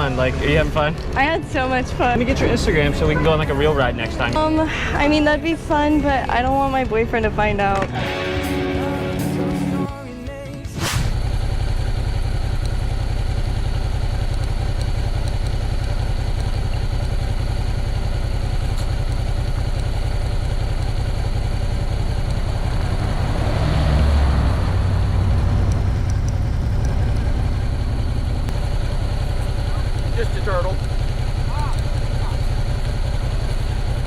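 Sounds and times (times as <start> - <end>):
motorcycle engine rumbling: 0.0 - 9.7, 11.1 - 34.0.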